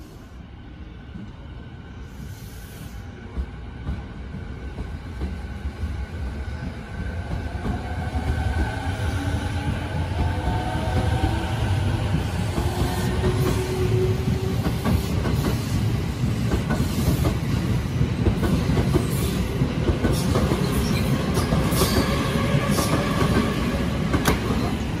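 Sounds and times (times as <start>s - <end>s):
electric train rumbling past: 0.0s - 25.0s.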